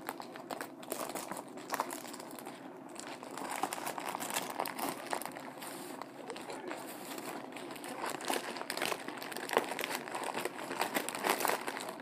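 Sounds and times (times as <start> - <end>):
sandwich wrapper crinkling: 0.0 - 12.0.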